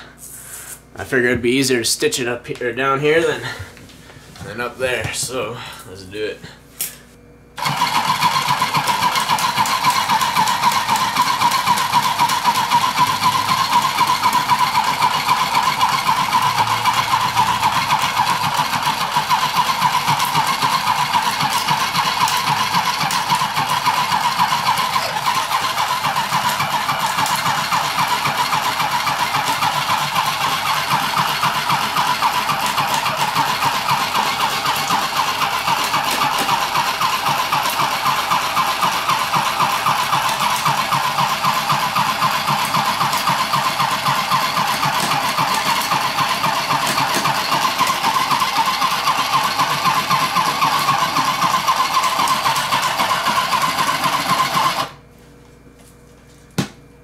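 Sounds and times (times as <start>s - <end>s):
mini sewing machine whirring: 7.6s - 55.0s.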